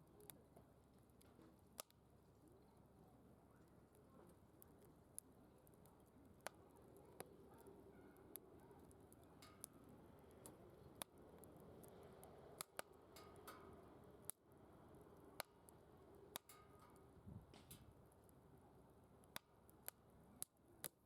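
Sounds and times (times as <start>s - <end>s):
low steady hiss: 0.0s - 21.0s
wood fire crackling and popping: 3.6s - 21.0s.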